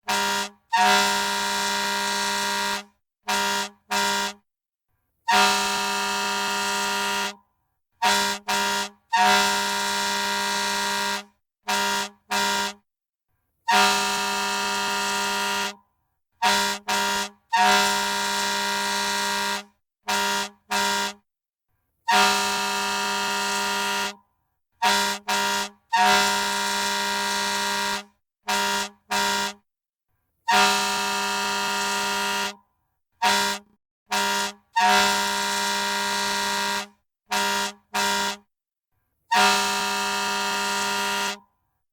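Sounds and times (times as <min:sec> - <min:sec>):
fire truck air horn blasts: 0:00.0 - 0:04.4, 0:05.3 - 0:12.8, 0:13.7 - 0:21.3, 0:22.1 - 0:29.6, 0:30.5 - 0:38.5, 0:39.3 - 0:41.5.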